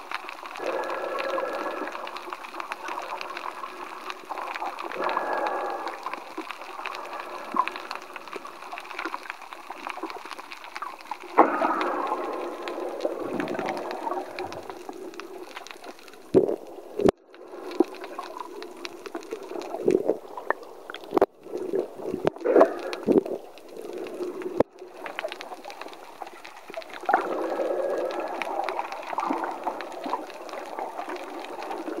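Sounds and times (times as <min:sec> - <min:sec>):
underwater gurgling and sloshing: 0:00.0 - 0:32.0.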